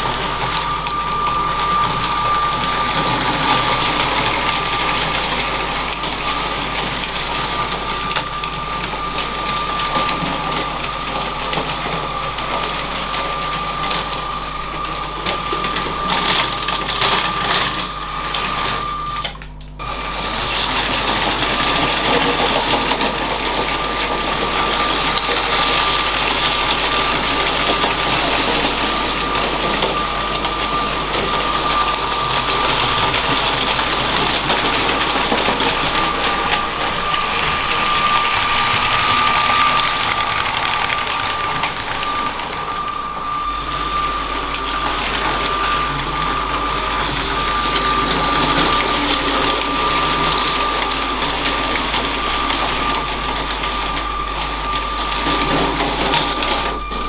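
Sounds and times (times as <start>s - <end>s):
plastic wheels clicking on track: 0.0s - 19.4s, 20.3s - 57.0s
electric motor whining: 0.0s - 57.0s.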